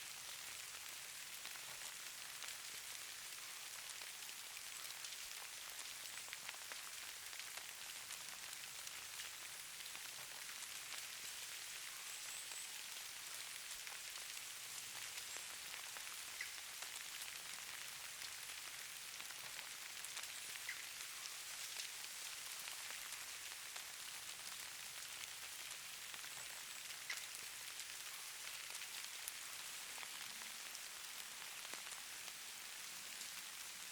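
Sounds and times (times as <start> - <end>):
rain pattering: 0.0 - 33.9.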